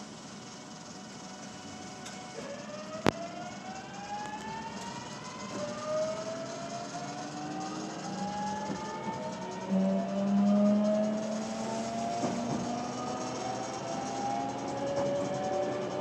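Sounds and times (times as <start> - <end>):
electric train motor whine: 0.0 - 16.0
rattle under train floor: 0.0 - 16.0.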